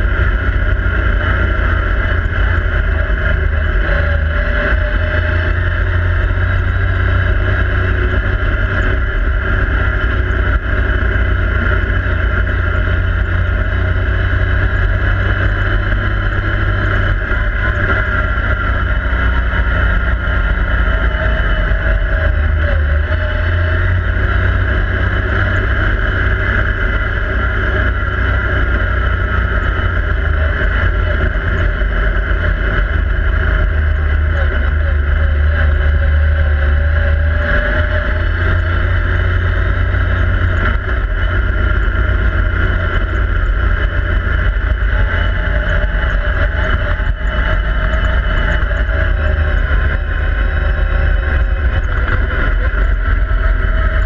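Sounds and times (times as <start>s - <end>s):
engine running with low rumble: 0.0s - 54.0s.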